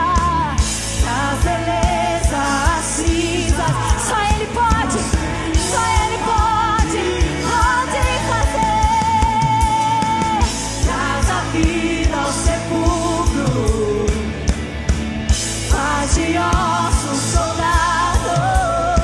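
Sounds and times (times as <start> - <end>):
women singing: 0.0 - 14.3, 15.6 - 19.0.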